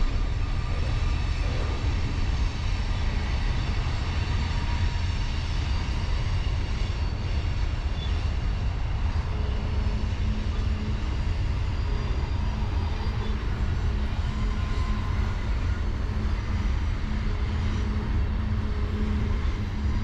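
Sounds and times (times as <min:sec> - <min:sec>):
diesel locomotives rumbling: 0:00.0 - 0:20.0.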